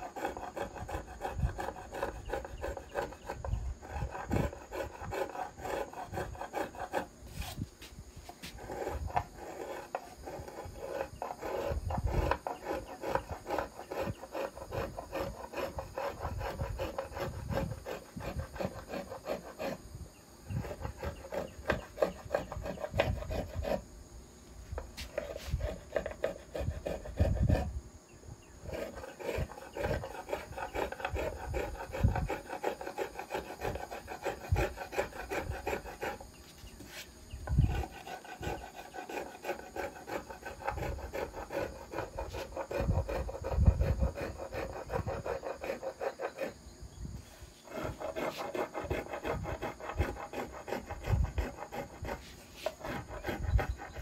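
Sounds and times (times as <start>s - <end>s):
finger plane shaving wood: 0.0s - 19.8s, 20.5s - 23.8s, 24.8s - 27.7s, 28.6s - 46.6s, 47.6s - 54.0s.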